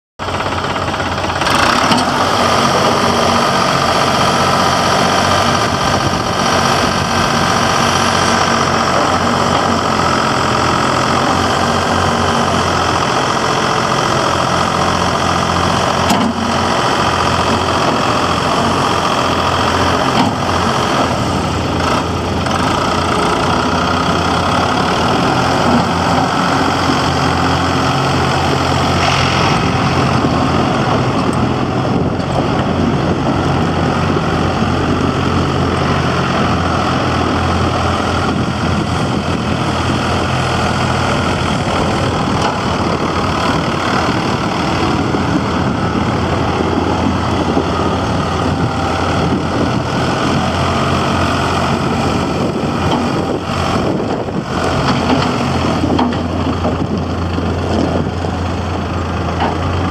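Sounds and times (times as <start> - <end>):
tractor diesel engine running: 0.2 - 59.9.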